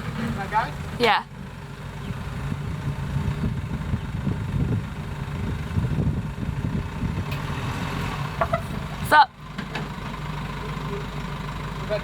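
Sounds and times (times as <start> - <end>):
van engine low rumble: 0.0 - 12.0.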